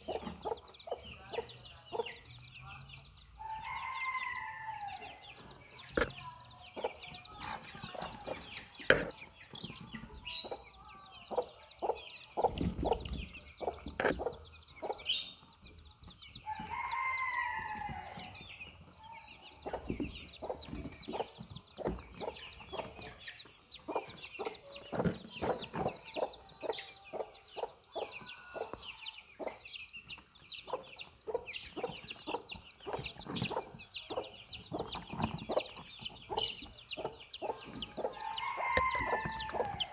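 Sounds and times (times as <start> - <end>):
baby chicks peeping: 0.0 - 39.9
chicken clucking: 0.0 - 39.9.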